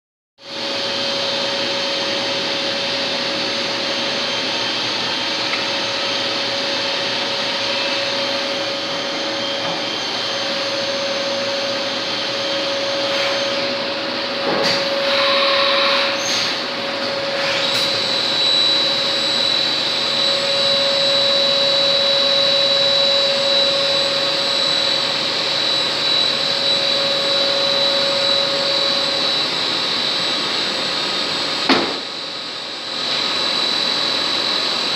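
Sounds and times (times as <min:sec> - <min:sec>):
lathe whirring and humming: 0:00.5 - 0:34.9
high steady whine: 0:00.6 - 0:34.9.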